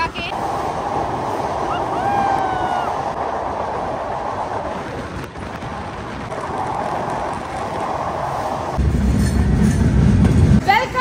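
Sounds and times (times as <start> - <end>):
moving train rushing: 0.0 - 11.0.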